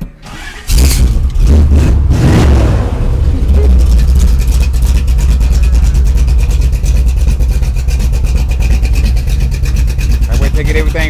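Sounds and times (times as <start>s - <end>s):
engine idling with deep exhaust pulses: 0.0s - 11.0s
high whine: 1.0s - 11.0s.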